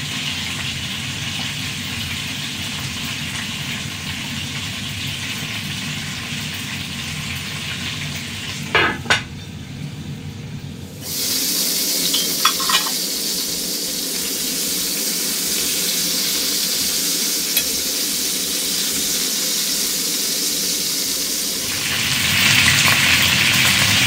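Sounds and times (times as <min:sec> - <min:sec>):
meat sizzling in oil: 0:00.0 - 0:10.2, 0:10.8 - 0:24.0.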